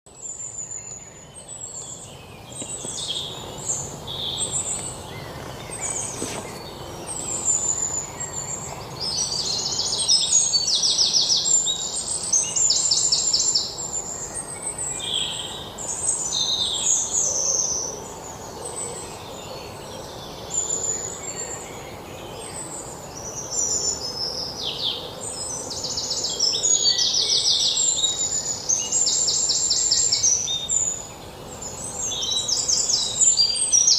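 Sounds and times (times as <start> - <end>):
birds chirping and trilling: 0.1 - 33.9
faint background hiss: 0.1 - 33.9.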